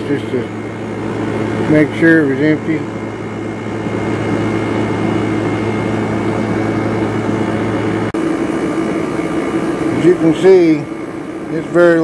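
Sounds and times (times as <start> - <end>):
air conditioner fan and compressor: 0.0 - 12.0
low hum: 0.0 - 12.0.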